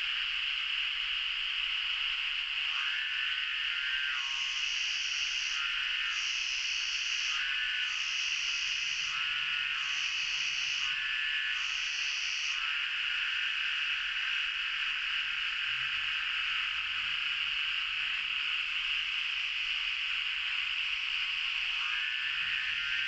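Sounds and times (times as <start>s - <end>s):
cicadas droning: 0.0s - 23.0s
pulsing insect call: 0.0s - 23.0s.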